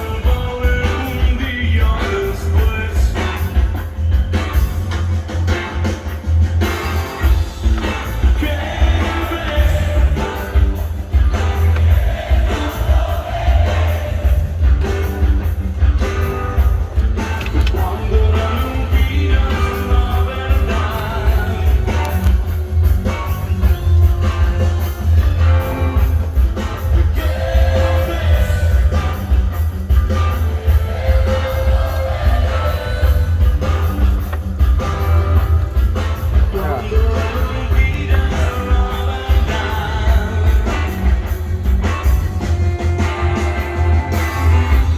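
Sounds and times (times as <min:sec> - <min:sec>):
heavy bass line: 0:00.0 - 0:44.9
rock music with singing: 0:00.0 - 0:44.9
steady drum beat: 0:00.0 - 0:44.9.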